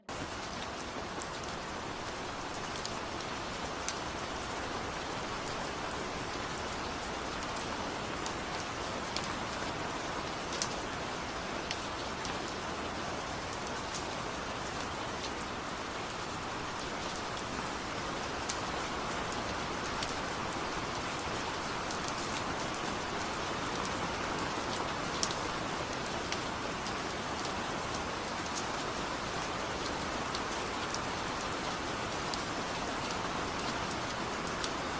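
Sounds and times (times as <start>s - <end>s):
steady rainfall hiss: 0.1s - 34.9s.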